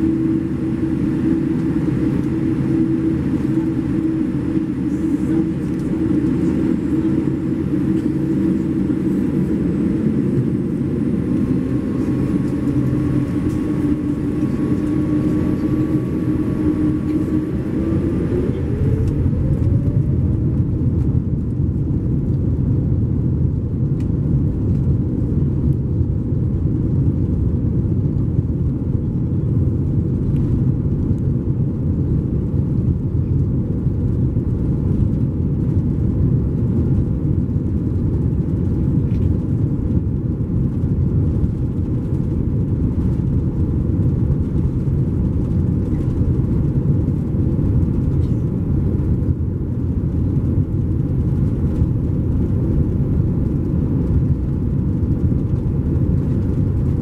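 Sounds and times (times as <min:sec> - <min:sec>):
jet engines whining: 0:00.0 - 0:24.1, 0:26.2 - 0:57.0
deep rumble of aircraft rolling: 0:00.0 - 0:57.0.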